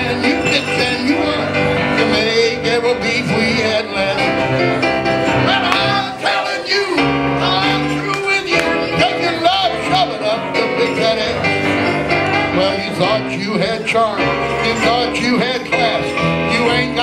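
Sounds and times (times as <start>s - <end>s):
man singing country song: 0.0s - 17.0s
piano: 0.0s - 17.0s.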